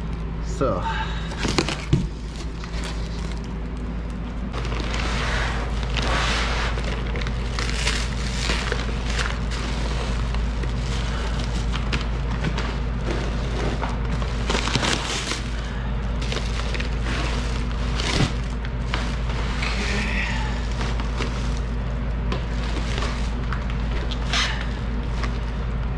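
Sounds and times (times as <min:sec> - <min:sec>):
steady low rumble: 0:00.0 - 0:25.9
plastic sheeting rustling and crinkling: 0:01.4 - 0:25.7.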